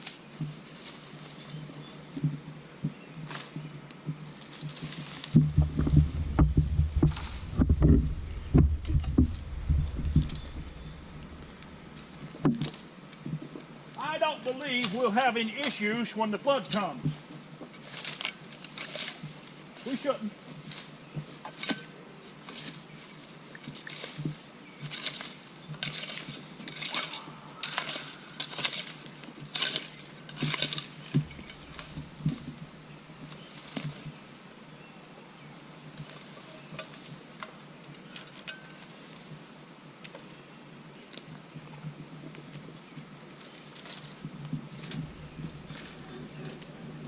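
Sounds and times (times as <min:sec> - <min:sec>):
brush rustling and scraping: 0:00.0 - 0:02.4, 0:03.1 - 0:34.6, 0:35.8 - 0:40.4, 0:41.0 - 0:47.0.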